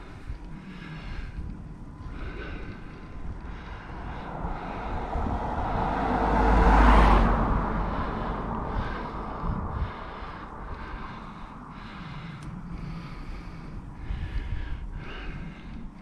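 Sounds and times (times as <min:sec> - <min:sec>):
motor vehicle passing by: 0:00.2 - 0:13.9.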